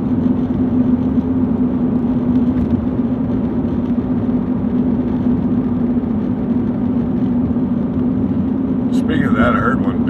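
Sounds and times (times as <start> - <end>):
car engine hum: 0.0 - 10.0
tyre road noise: 0.0 - 10.0.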